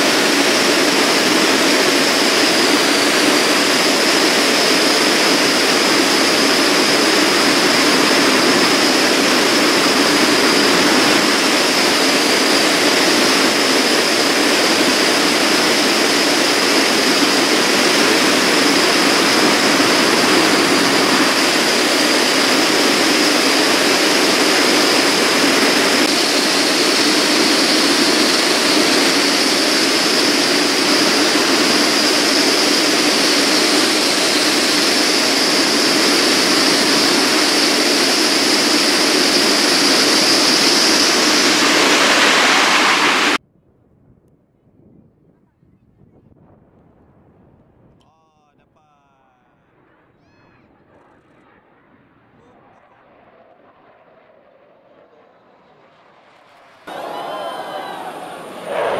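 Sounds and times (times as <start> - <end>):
jet engine roar: 0.0 - 43.4, 49.5 - 58.9.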